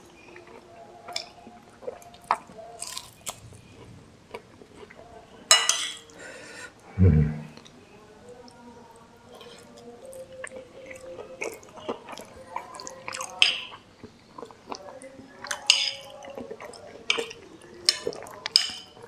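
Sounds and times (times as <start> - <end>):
chewing fried food: 0.0 - 6.6, 8.2 - 19.0.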